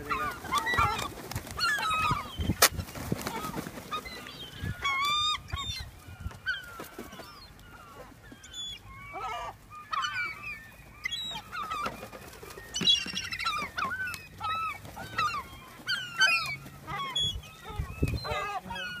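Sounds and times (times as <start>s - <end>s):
gulls squawking: 0.0s - 19.0s.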